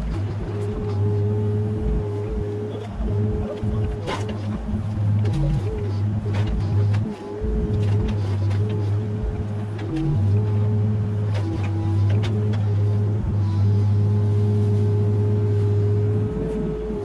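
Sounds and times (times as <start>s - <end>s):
diesel engine running: 0.0s - 17.0s
hydraulic whine: 0.0s - 17.0s.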